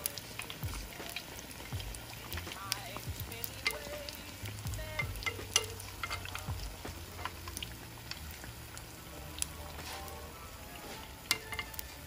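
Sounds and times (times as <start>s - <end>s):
deep-frying sizzle with crackling pops: 0.0s - 12.0s
metal spoon stirring in pot: 0.0s - 12.0s.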